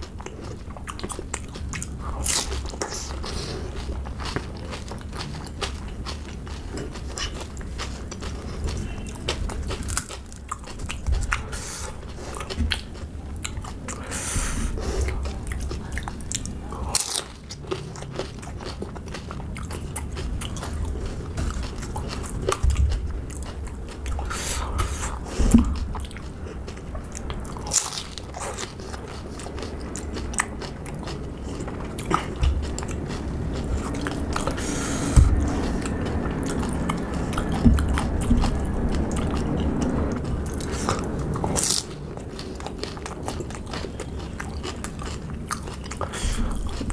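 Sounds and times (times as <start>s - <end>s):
wet chewing: 0.0s - 46.9s.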